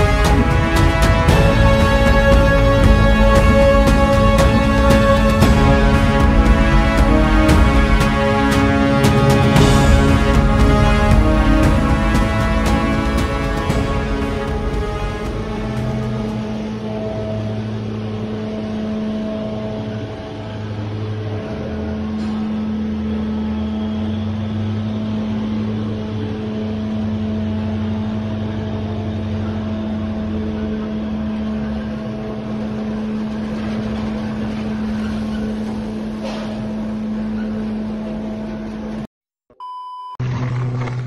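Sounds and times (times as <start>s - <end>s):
constant hum: 0.0s - 39.1s
vehicle engines droning: 0.0s - 39.1s.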